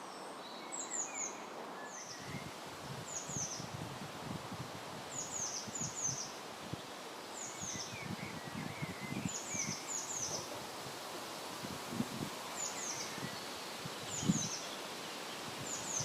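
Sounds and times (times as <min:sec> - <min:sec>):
wind gusting and rustling: 0:00.0 - 0:16.0.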